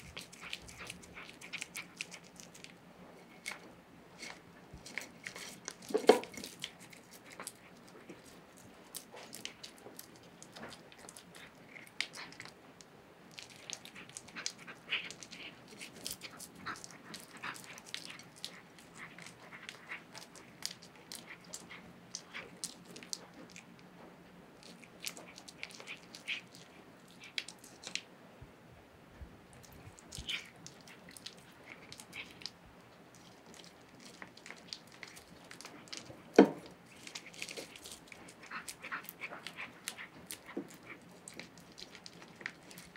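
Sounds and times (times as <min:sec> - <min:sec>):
cat chewing wet food: 0:00.0 - 0:28.1, 0:29.3 - 0:42.9.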